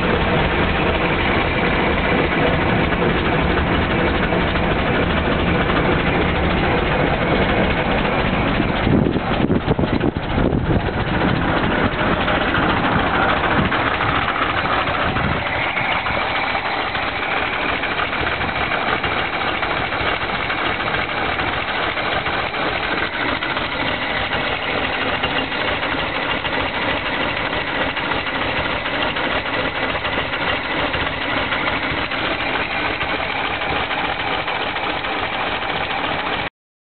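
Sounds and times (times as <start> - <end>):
truck engine idling: 0.0 - 36.5.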